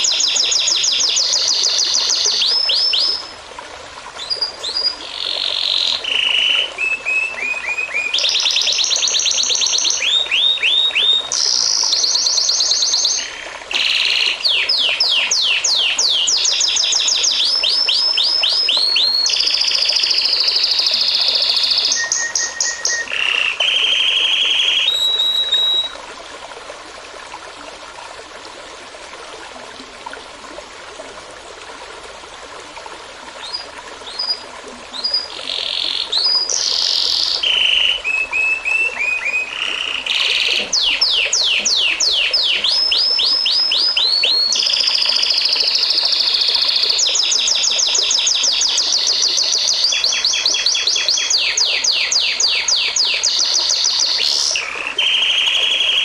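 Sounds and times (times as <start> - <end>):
songbird singing trills and whistles: 0.0 - 3.4, 4.2 - 26.0, 33.4 - 56.0
stream trickling: 0.0 - 56.0.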